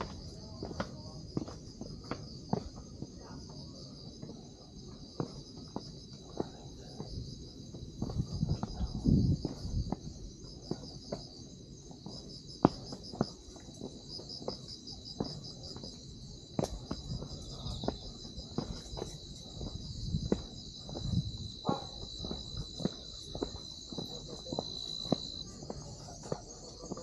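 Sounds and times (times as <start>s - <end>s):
footsteps on trail: 0.0s - 27.0s
night insects trilling: 0.0s - 27.0s.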